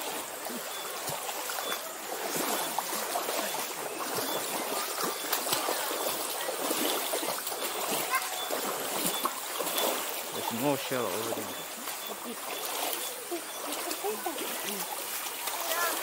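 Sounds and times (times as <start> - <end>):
stream water running over rocks: 0.0 - 16.0.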